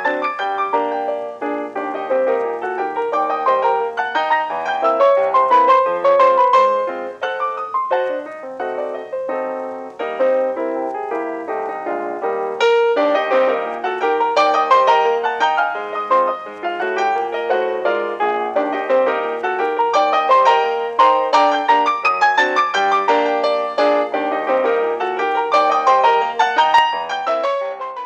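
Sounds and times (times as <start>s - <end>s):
solo piano run: 0.0s - 28.0s.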